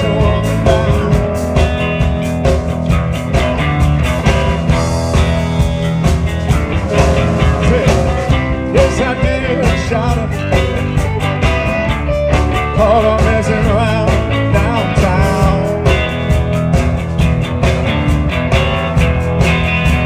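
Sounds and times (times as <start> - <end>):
blues band playing: 0.0 - 20.0
electric guitar lead bent notes: 0.0 - 20.0.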